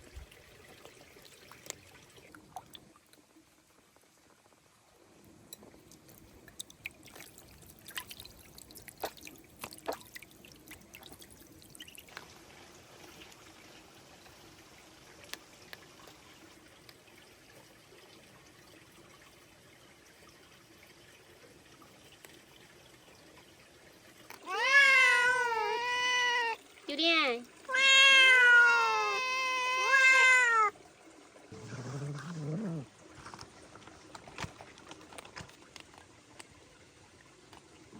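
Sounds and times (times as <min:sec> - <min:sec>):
faint trickling water: 0:00.0 - 0:37.9.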